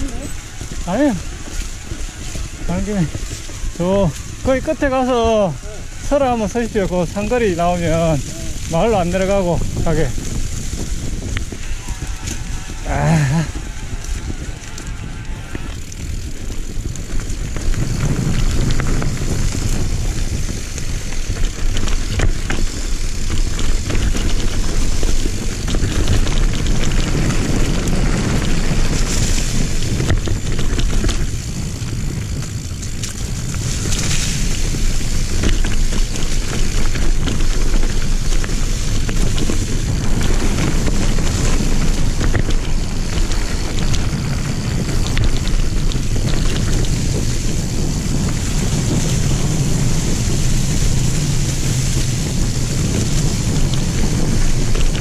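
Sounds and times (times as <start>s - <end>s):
bike rattling: 0.0s - 55.0s
bike tyres on dirt: 0.0s - 55.0s
wind on microphone: 0.0s - 55.0s.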